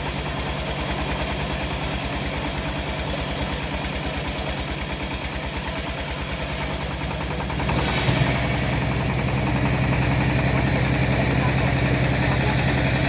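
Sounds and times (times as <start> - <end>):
bandsaw mill engine running: 0.0 - 13.0.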